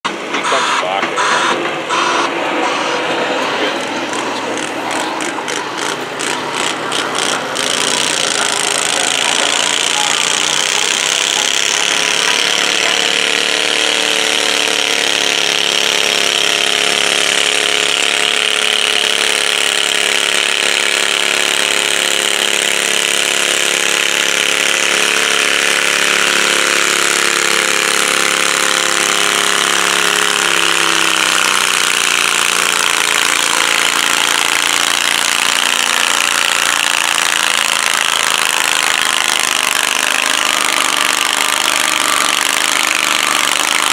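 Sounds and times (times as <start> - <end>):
tractor engine at high revs: 0.0 - 43.9.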